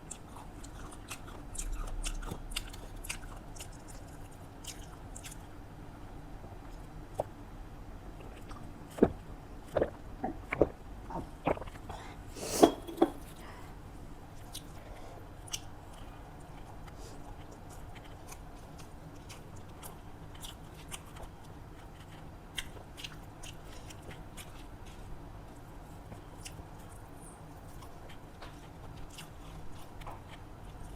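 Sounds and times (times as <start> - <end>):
chewing with mouth clicks: 0.0 - 5.6, 8.1 - 11.9, 14.3 - 14.8, 15.4 - 30.9.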